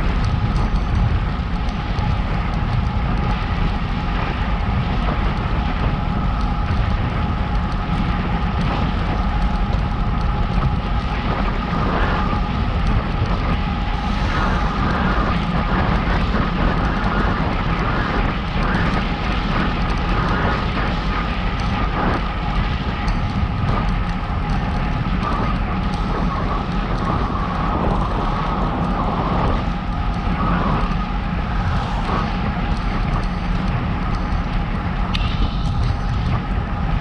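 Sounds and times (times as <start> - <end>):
constant ride hum: 0.0 - 37.0
wind rumble on microphone: 0.0 - 37.0.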